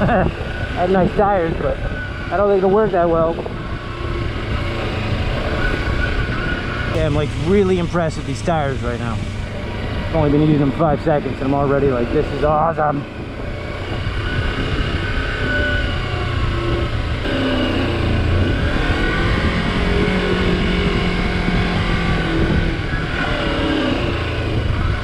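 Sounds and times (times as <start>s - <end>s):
motorcycle engine revving: 0.0s - 25.0s
steady rushing noise: 0.0s - 25.0s.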